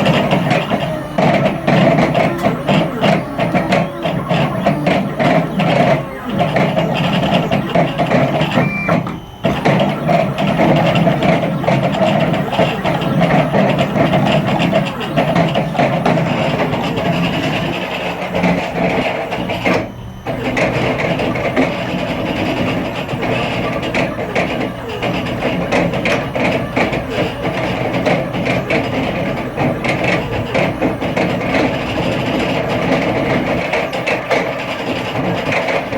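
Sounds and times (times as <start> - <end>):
cnc machine stepper motors whining: 0.0 - 35.9.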